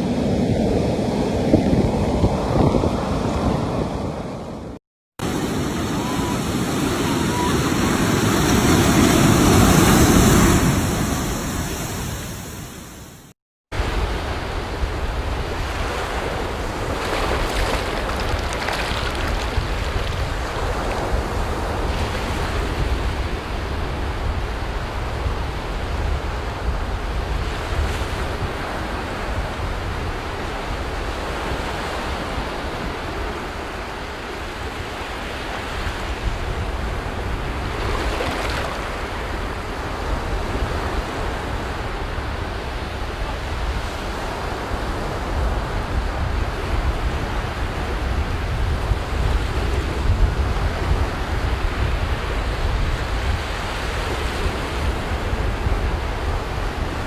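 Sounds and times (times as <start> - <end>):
wind buffeting microphone: 0.0 - 12.4, 13.8 - 33.8, 35.7 - 57.0
ocean waves breaking: 0.0 - 25.8, 35.5 - 57.0.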